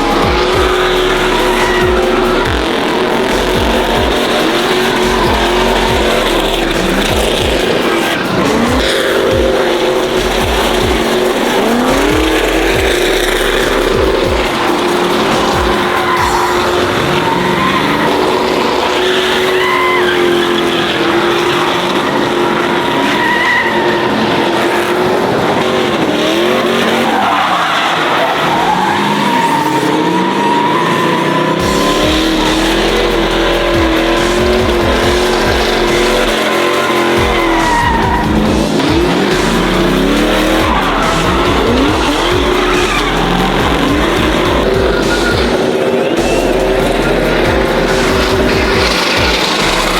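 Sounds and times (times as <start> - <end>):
truck engine at high revs: 0.0 - 49.9
tyres squealing on pavement: 0.0 - 49.9.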